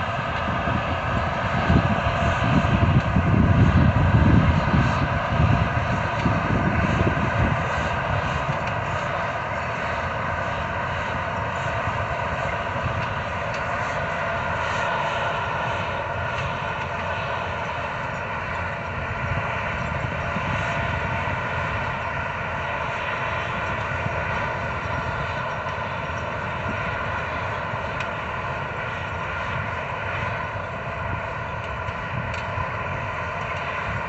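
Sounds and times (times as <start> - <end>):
harvesting machine engine drone: 0.0 - 34.0
rumbling mechanical noise: 0.0 - 34.0.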